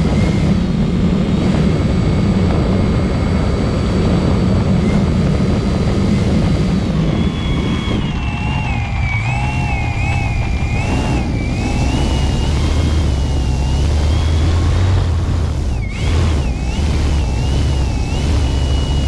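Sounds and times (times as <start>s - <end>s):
heavy low rumble: 0.0s - 19.0s
model plane motor whining: 0.0s - 19.0s.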